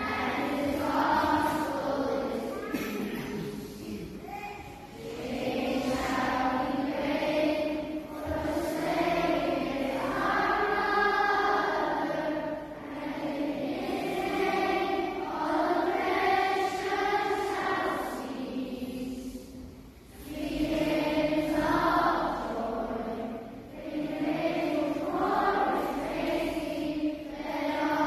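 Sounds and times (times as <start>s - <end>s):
choir singing: 0.0s - 3.3s, 5.0s - 19.6s, 20.2s - 28.0s.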